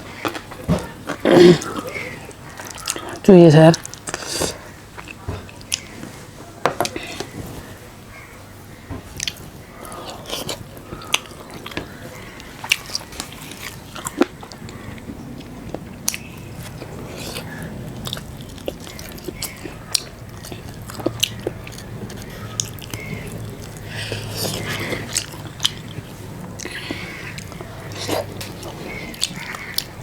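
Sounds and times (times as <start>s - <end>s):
person chewing and crunching food: 0.0s - 7.8s, 9.0s - 30.0s.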